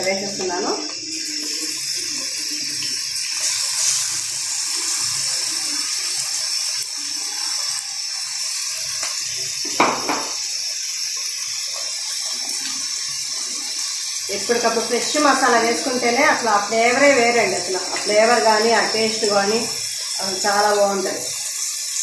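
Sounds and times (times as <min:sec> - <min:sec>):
hot oil sizzling: 0:00.0 - 0:22.0.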